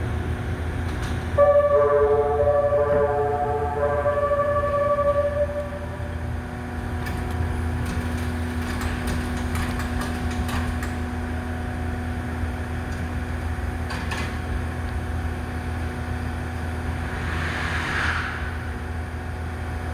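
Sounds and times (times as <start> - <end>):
train running hum: 0.0 - 19.9.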